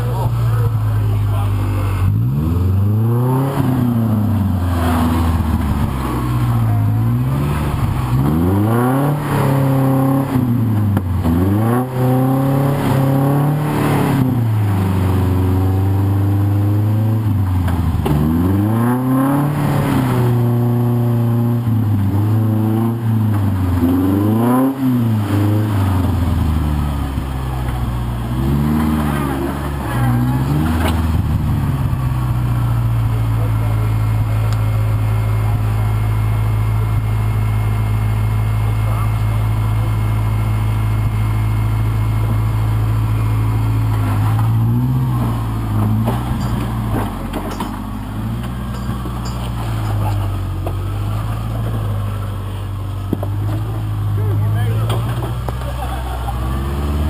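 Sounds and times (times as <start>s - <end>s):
buggy engine revving: 0.0s - 57.0s.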